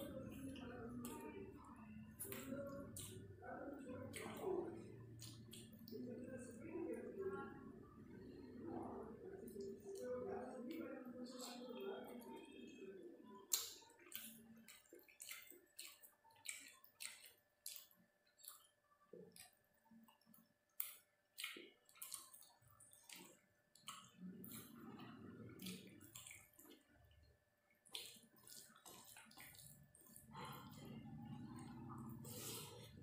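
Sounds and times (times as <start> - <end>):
fingers kneading wet food: 0.0 - 33.0.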